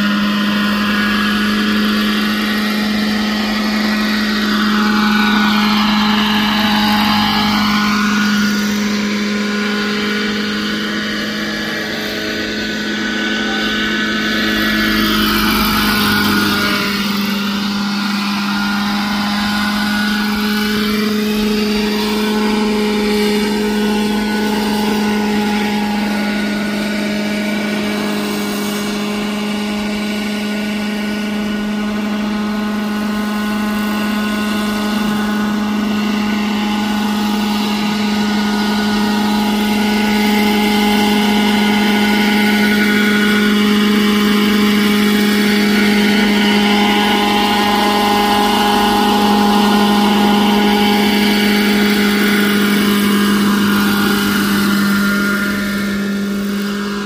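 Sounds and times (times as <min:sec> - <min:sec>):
helicopter rotor drone: 0:00.0 - 0:57.0
high whine gliding in pitch: 0:00.0 - 0:57.0.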